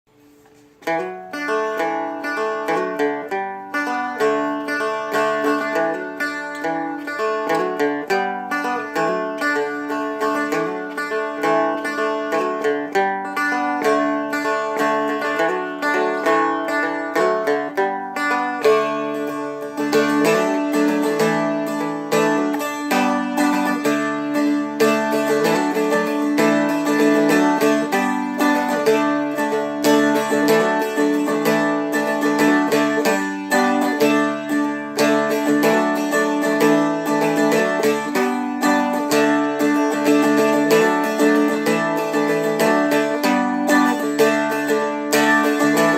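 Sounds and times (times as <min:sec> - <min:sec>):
flatpicked string melody: 0:00.0 - 0:45.9.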